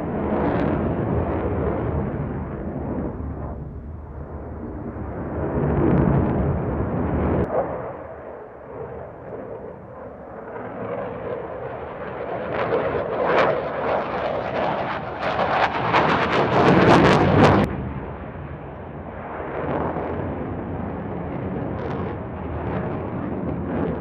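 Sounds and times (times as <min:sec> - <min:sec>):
jet fighter engine roar: 0:00.0 - 0:24.0.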